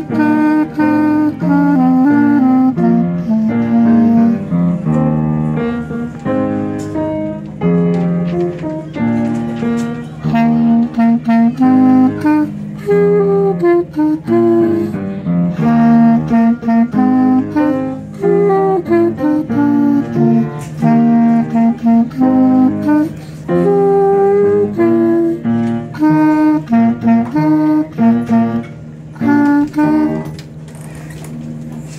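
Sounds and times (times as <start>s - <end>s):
clarinet melody: 0.0s - 31.9s.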